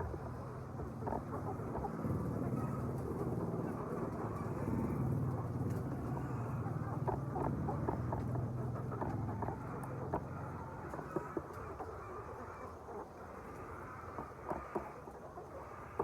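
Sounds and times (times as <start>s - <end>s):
chickens clucking and chirping: 0.0s - 16.0s.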